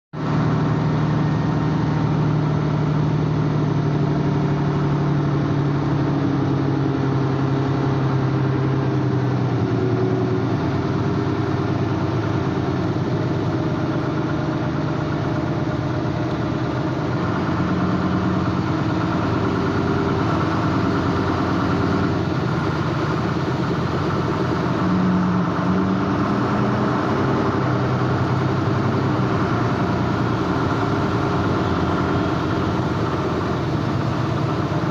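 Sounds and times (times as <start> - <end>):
engine humming steadily: 0.1 - 34.9
constant rushing noise: 0.2 - 34.9.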